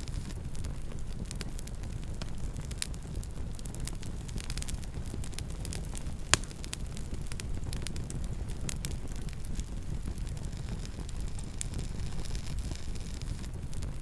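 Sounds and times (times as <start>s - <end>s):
loud fire pop: 0.0s - 13.9s
campfire crackling: 0.0s - 14.0s.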